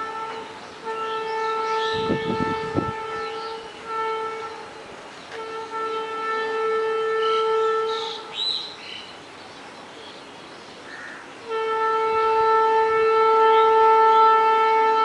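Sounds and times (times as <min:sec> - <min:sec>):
locomotive horn blasts: 0:00.0 - 0:08.8, 0:11.4 - 0:15.0.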